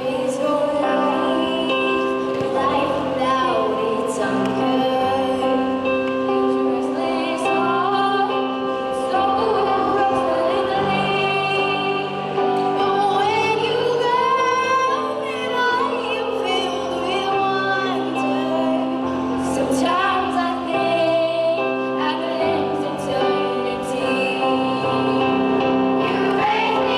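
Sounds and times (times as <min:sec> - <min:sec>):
held instrumental chords: 0:00.0 - 0:26.9
woman singing slow song: 0:00.0 - 0:26.9.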